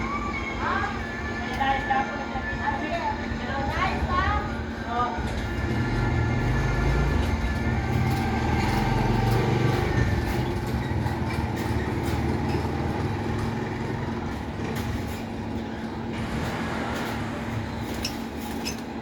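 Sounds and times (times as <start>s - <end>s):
constant hum: 0.0s - 19.0s
machine rumbling: 0.0s - 19.0s.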